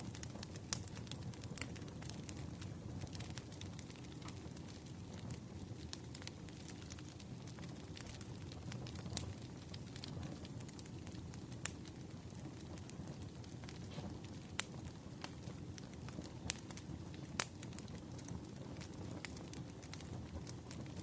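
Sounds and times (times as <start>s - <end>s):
firewood crackling and popping: 0.0s - 21.0s
flame rustling: 0.0s - 21.0s.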